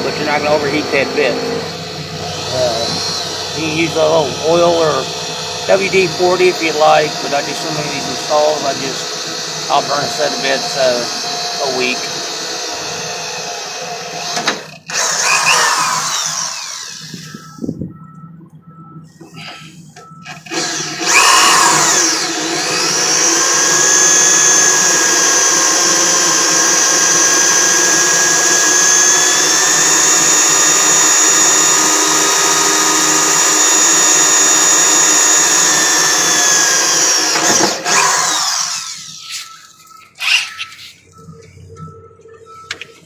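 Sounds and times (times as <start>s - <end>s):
electric drill motor whine: 0.0s - 17.8s, 19.2s - 41.4s.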